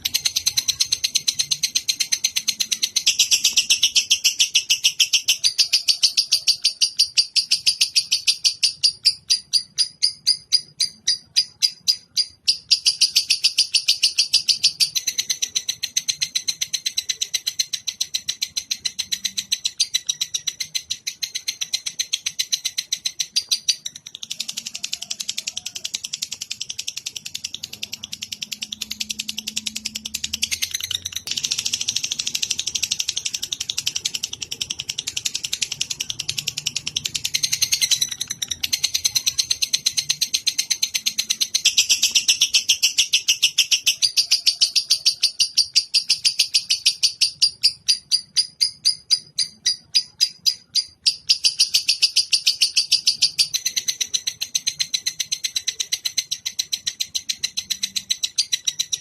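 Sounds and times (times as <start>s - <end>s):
fast high-pitched bird trill: 0.0s - 59.0s.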